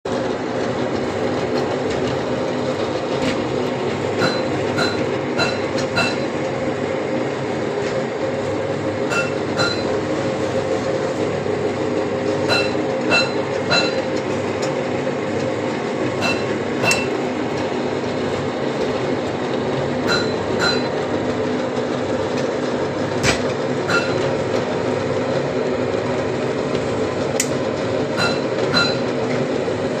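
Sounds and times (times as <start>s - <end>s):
steady mechanical drone: 0.1s - 30.0s.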